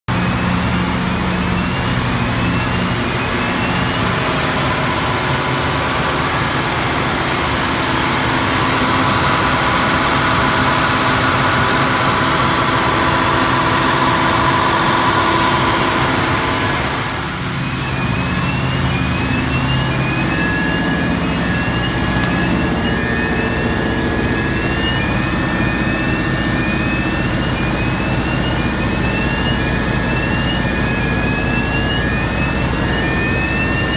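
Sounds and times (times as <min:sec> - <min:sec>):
diesel generator droning: 0:00.1 - 0:33.9.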